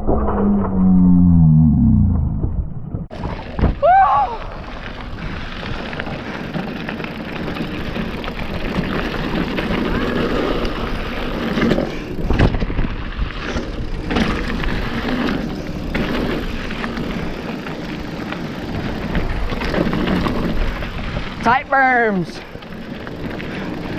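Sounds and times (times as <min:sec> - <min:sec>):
bike tyres on dirt trail: 0:03.1 - 0:23.9.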